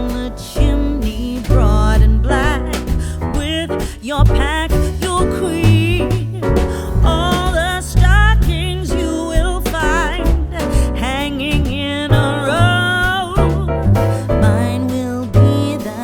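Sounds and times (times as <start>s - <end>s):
pop song with vocals: 0.0s - 16.0s.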